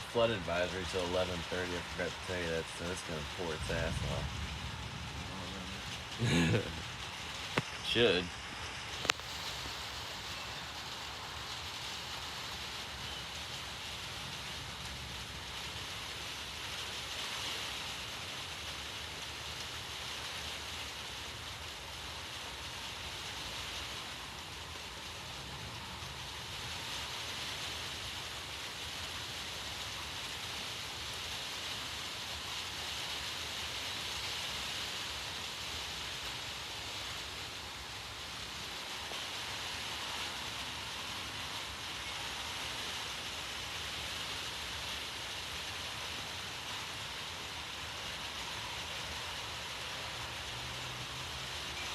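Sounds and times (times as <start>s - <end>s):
steady outdoor hiss: 0.0s - 51.9s.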